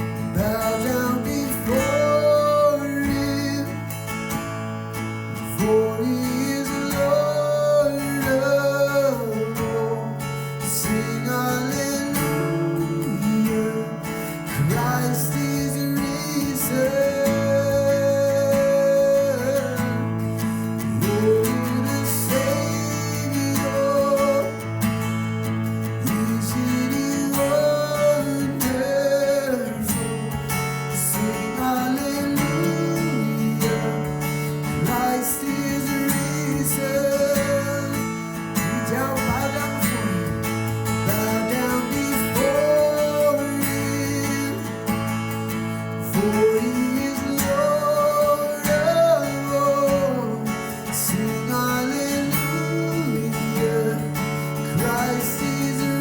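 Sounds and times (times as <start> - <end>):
strummed acoustic guitar: 0.0 - 56.0.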